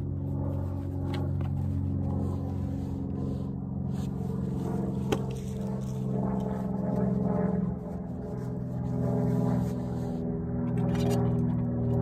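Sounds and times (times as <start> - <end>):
ambient drone music: 0.0 - 12.0.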